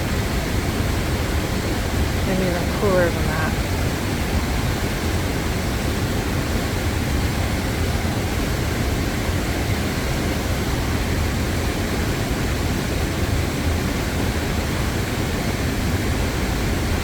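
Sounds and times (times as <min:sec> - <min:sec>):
river and waterfall rushing: 0:00.0 - 0:17.0.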